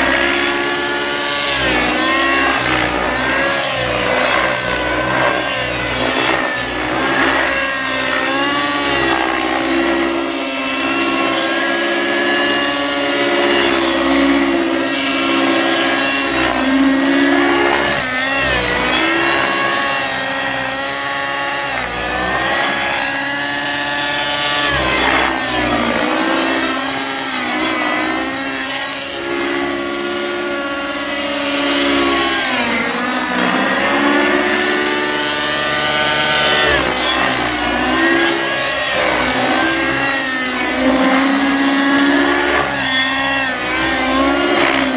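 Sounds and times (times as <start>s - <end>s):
model helicopter engine whine: 0.0s - 44.9s.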